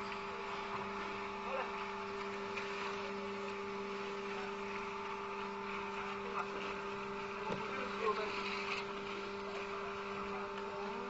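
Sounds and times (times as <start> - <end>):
concrete pump two-tone hum: 0.0 - 11.0.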